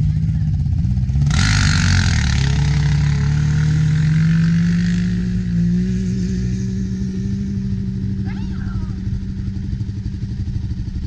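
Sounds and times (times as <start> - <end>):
atv accelerating: 0.0 - 11.0
utv engine pulling away: 0.0 - 11.0.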